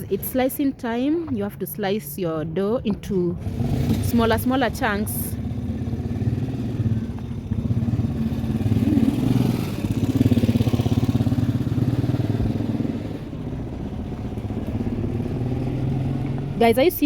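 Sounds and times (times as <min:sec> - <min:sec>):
vehicle engine throbbing: 0:03.2 - 0:17.0.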